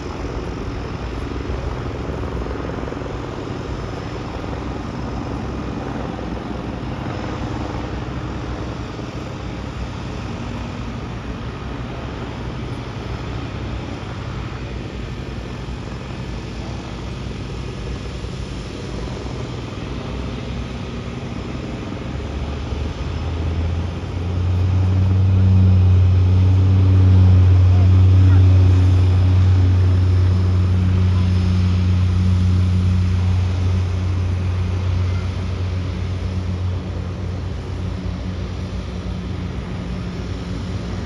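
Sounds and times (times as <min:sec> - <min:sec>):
propeller plane engine droning: 0:00.0 - 0:41.0.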